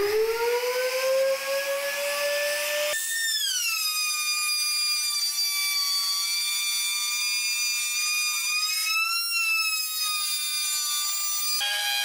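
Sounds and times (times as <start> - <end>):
router motor whine: 0.0 - 12.0.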